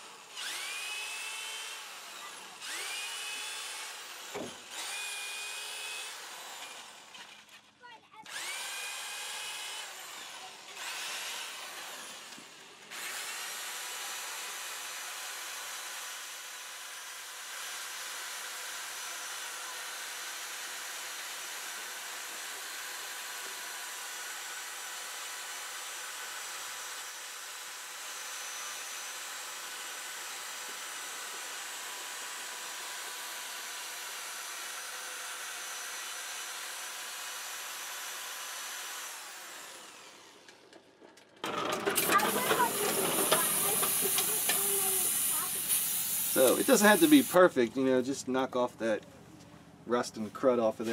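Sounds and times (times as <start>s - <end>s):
electric drill whining and grinding: 0.0s - 47.4s.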